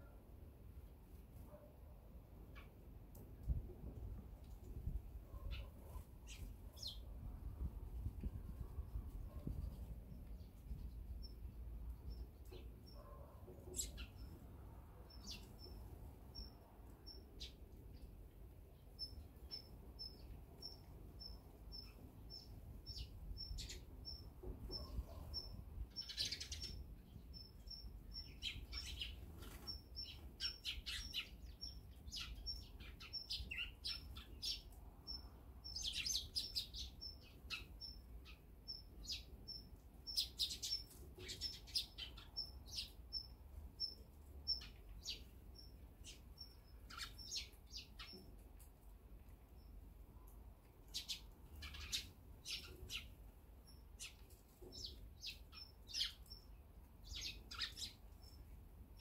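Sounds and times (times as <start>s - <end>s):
sparrows chirping: 4.6s - 7.8s, 8.7s - 59.0s.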